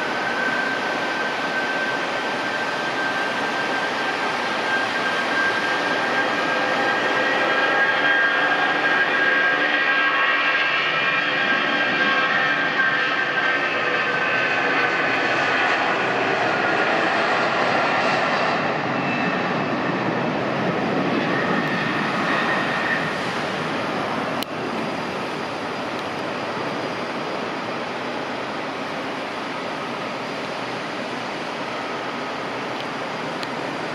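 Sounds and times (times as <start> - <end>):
jet engines at takeoff: 0.0 - 33.9.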